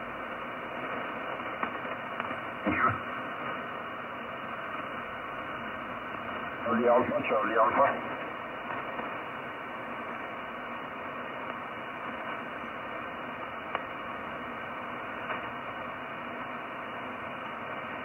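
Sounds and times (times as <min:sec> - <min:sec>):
faint static clicks: 0:00.0 - 0:18.0
radio band hiss: 0:00.0 - 0:18.0.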